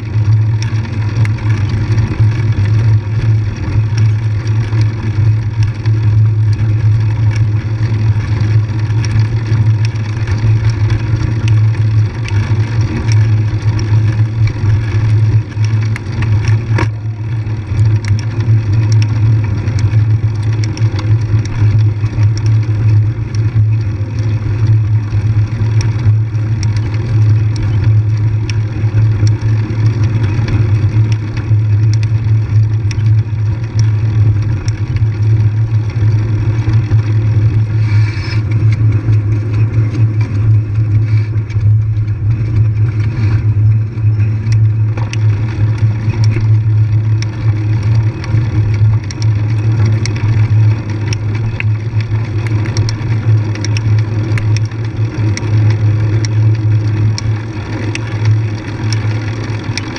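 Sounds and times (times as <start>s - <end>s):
engine running steadily: 0.0s - 59.9s
ticks and rattles: 0.0s - 59.9s.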